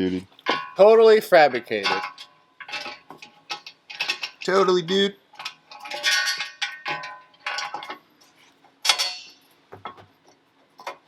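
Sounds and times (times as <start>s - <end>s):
metal pipes clanking: 0.4s - 10.1s.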